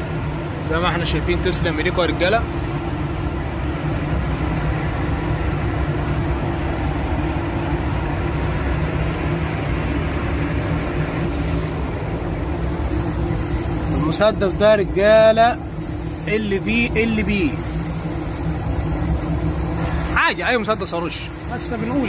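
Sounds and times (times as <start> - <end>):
low hum: 0.0 - 22.0
spray booth ventilation rushing air: 0.0 - 22.0.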